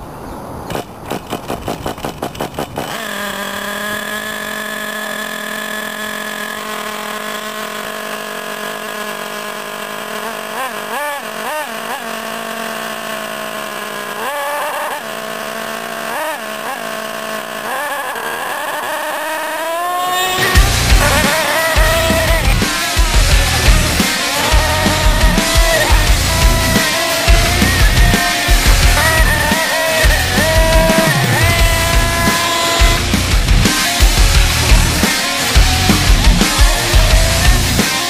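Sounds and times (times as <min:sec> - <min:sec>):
small nitro engine running: 0:00.7 - 0:38.0.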